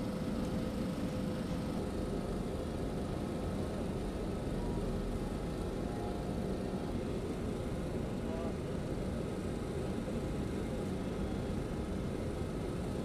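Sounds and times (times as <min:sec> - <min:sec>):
faint hum tones: 0:00.0 - 0:13.0.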